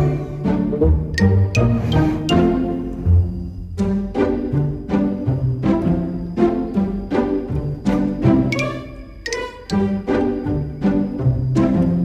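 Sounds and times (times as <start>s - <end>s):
string music with bouncy bass: 0.0s - 12.0s.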